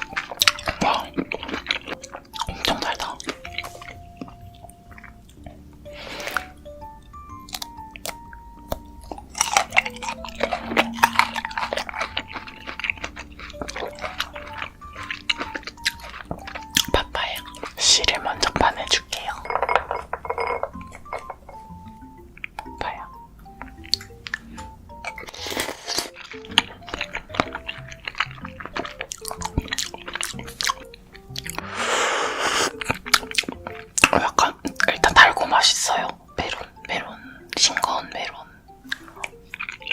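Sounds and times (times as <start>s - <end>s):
crunchy chewing of fruit: 0.0s - 39.9s
soft background music: 0.0s - 39.9s.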